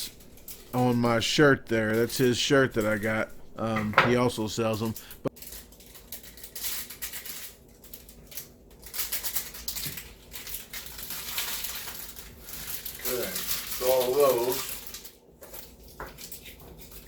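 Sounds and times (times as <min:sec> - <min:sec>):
food packets rustling: 0:00.0 - 0:17.0.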